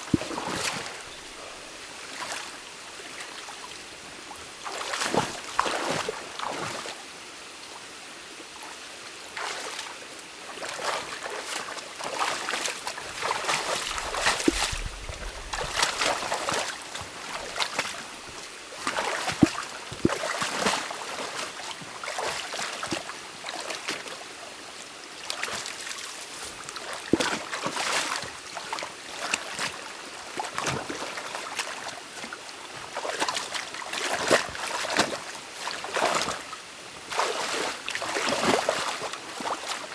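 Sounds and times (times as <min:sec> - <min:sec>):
water splashing and sloshing: 0:00.0 - 0:03.5, 0:04.4 - 0:06.9, 0:10.6 - 0:24.2, 0:25.3 - 0:39.9
steady stream flow: 0:00.0 - 0:39.9.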